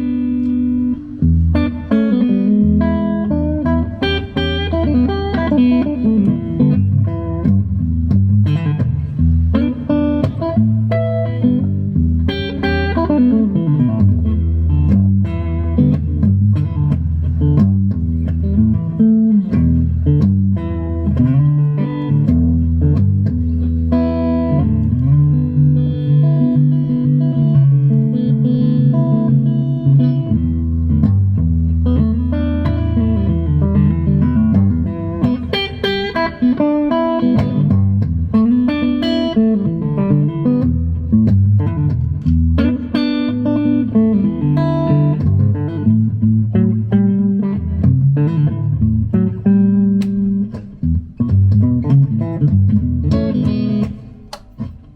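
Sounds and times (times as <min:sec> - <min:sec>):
electric guitar playing: 0:00.0 - 0:54.9.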